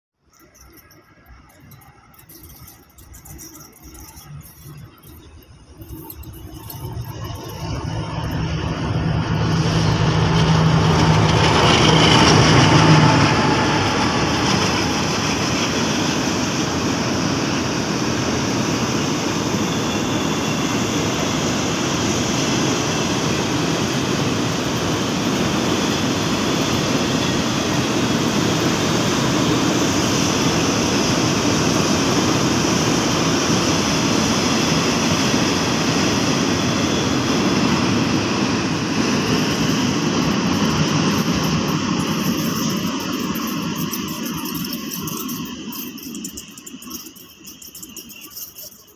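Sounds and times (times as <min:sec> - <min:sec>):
train wheels on rails: 0:00.6 - 0:48.9
diesel locomotive engine passing: 0:05.4 - 0:48.3.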